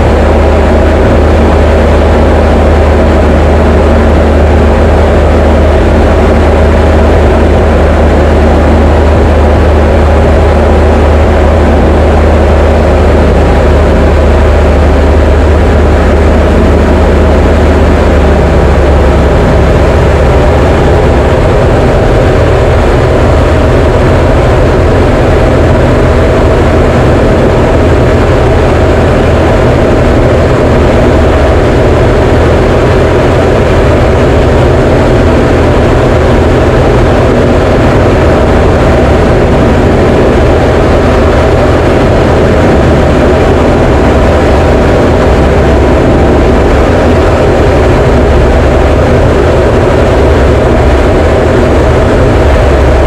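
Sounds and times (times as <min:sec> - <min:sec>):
aircraft engine and propeller drone: 0:00.0 - 0:53.0.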